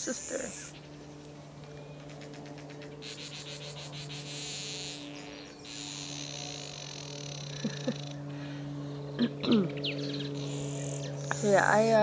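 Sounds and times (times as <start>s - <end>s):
pulsing insect chorus: 0.0s - 11.9s
steady low hum: 0.0s - 12.0s.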